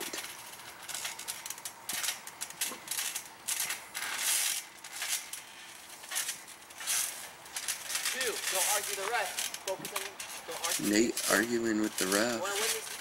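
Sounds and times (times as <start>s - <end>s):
trampoline springs creaking: 0.0s - 13.0s.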